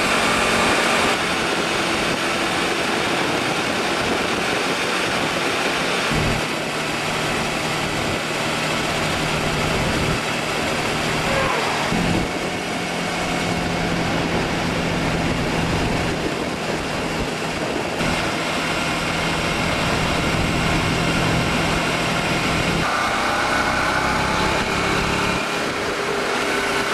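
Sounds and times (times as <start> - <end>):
motorcycle engine hum: 0.0 - 26.9
wind rush: 0.0 - 26.9.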